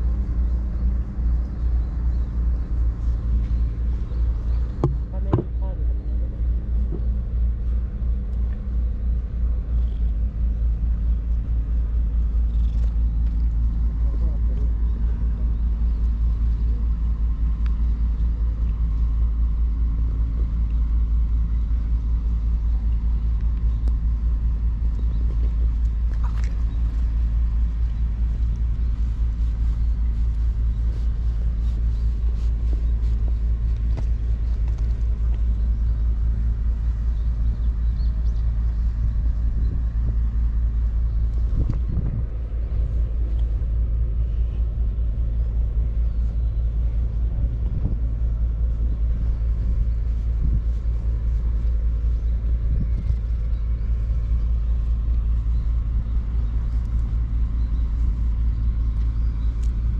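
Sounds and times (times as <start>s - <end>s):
low rumble with hum: 0.0s - 59.9s.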